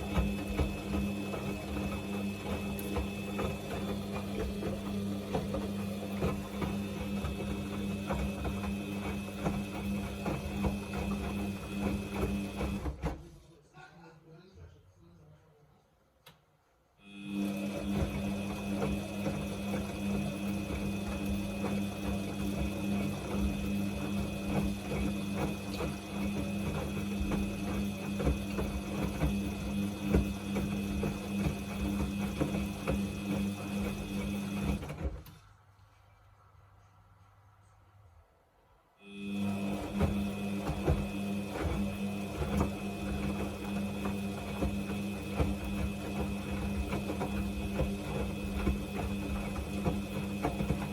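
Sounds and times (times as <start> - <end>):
washing machine motor hum: 0.0 - 13.5, 17.0 - 35.7, 39.0 - 50.9.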